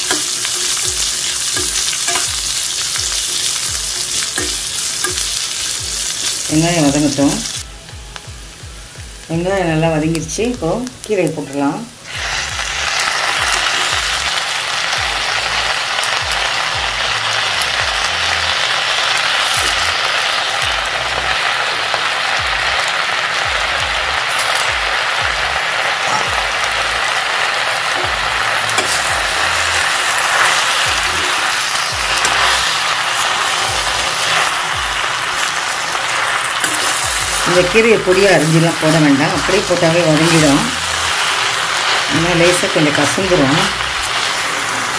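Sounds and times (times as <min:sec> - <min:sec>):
leaves sizzling in hot oil: 0:00.0 - 0:44.9.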